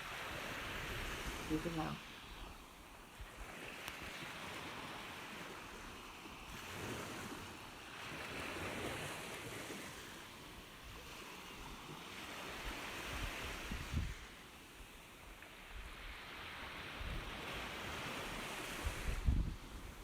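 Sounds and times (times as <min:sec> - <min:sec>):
ocean waves washing in: 0:00.0 - 0:20.0.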